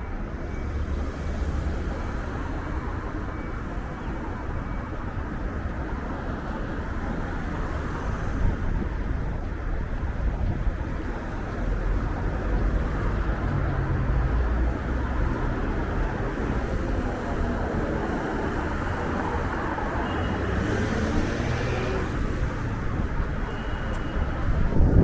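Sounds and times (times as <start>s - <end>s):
street traffic noise: 0.0s - 25.0s
wind buffeting microphone: 3.7s - 25.0s.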